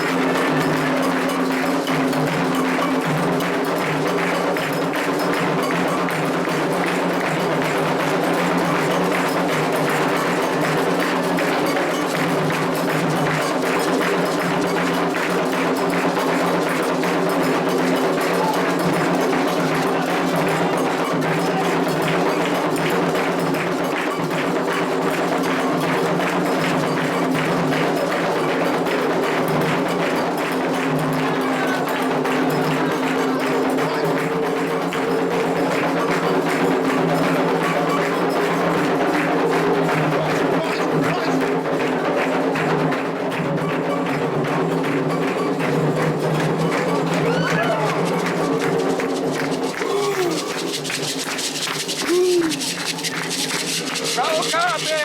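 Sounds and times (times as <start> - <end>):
hand drums: 0.0 - 55.0.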